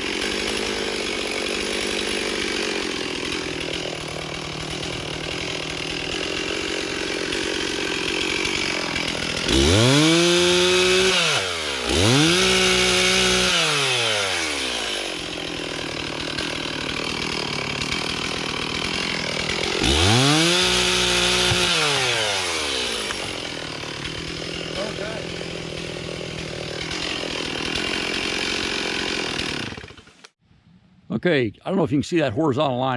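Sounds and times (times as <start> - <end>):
chainsaw idling and revving: 0.0 - 30.4.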